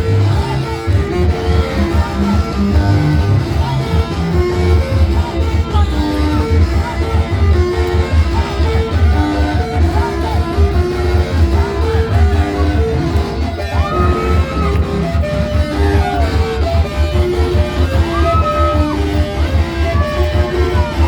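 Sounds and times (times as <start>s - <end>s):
guitar-led instrumental music: 0.0s - 21.0s
steady bass beat: 0.0s - 21.0s.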